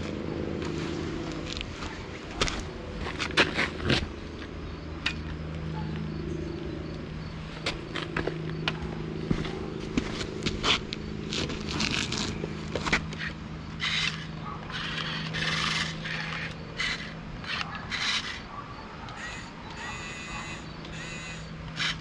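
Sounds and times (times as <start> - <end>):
gravel scraping and clicking: 0.0 - 6.2, 6.8 - 22.0
small electric motors humming: 0.0 - 22.0.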